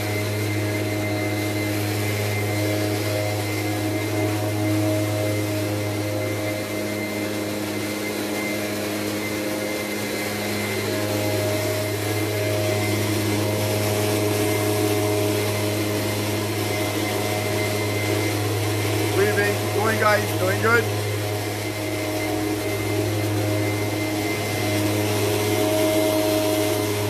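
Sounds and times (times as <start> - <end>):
high-pitched machine tones: 0.0 - 27.0
motor humming: 0.0 - 27.0.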